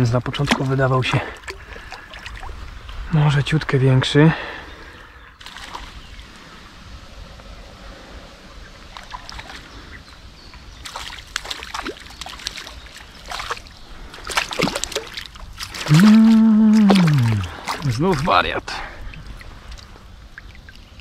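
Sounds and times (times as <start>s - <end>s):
river water running and splashing: 0.0s - 3.2s, 4.6s - 21.0s.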